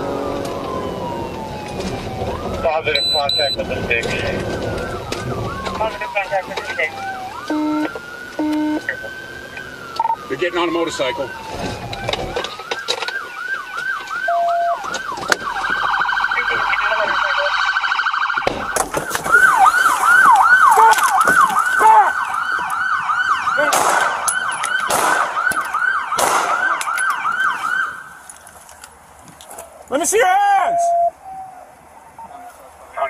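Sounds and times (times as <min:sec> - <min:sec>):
police siren yelping: 0:00.0 - 0:28.2, 0:30.3 - 0:32.5.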